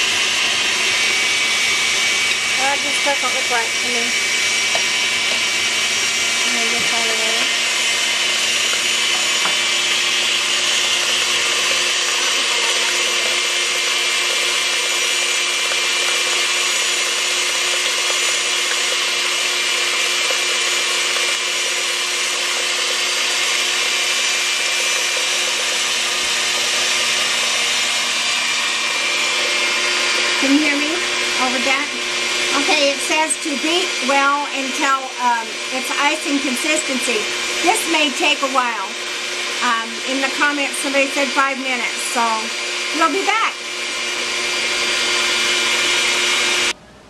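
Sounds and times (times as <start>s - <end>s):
stand mixer motor whining: 0.0s - 46.8s.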